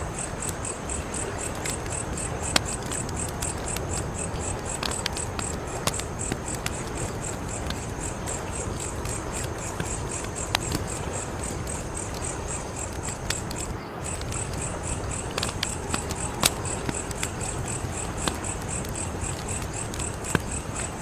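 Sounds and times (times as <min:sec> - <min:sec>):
crickets chirping: 0:00.0 - 0:21.0
wood fire crackling and popping: 0:00.0 - 0:21.0.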